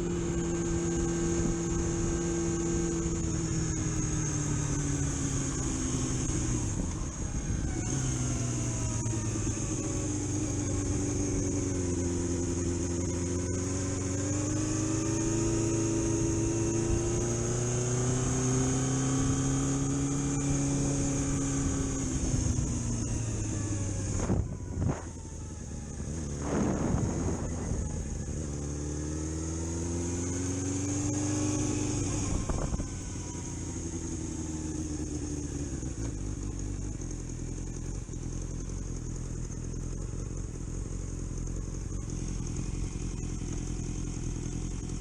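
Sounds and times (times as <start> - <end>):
high-pitched whine: 0.0 - 45.0
vehicle engine running: 0.0 - 45.0.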